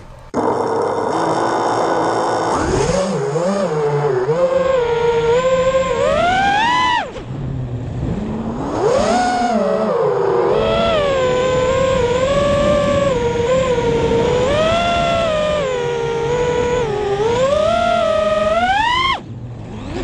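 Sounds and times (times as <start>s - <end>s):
drone motors and propellers whining: 0.0s - 20.0s.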